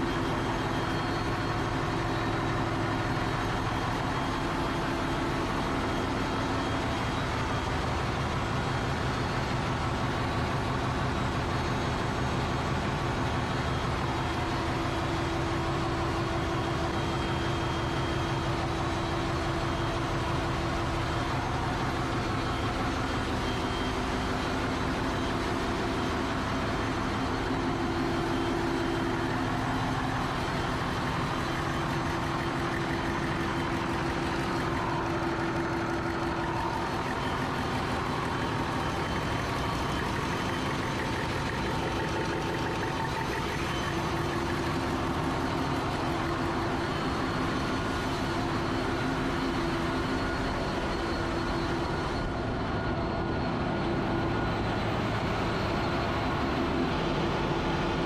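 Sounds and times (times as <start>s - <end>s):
engine-room machinery running: 0.0s - 58.0s.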